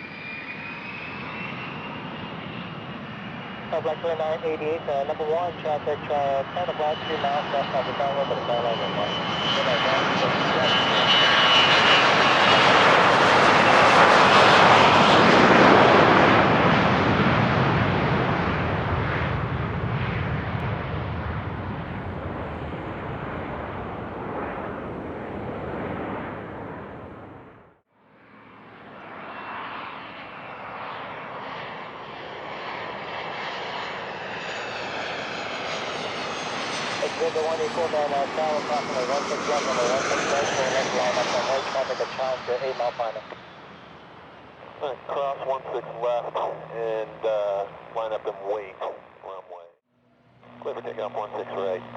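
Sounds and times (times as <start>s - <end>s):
jet engines roaring: 0.0s - 27.6s, 28.2s - 49.4s, 50.3s - 51.9s.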